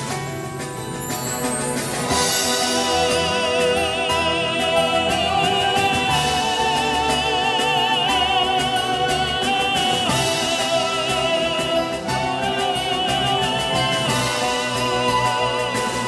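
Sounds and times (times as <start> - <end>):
instrumental accompaniment: 0.0 - 16.0
man singing with vibrato: 2.2 - 16.0.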